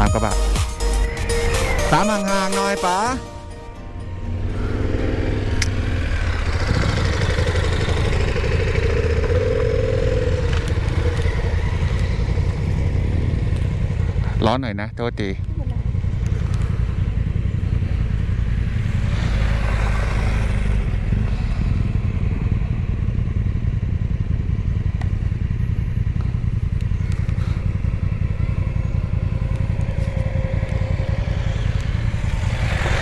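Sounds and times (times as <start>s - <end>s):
motorcycle engine running: 3.9s - 33.0s.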